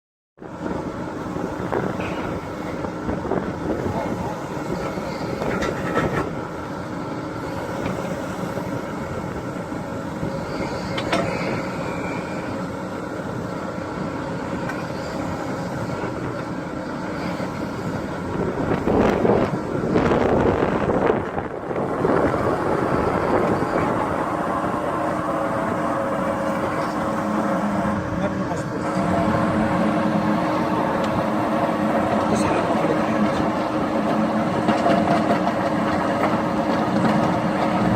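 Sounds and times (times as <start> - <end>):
excavator engine running: 0.4 - 37.9.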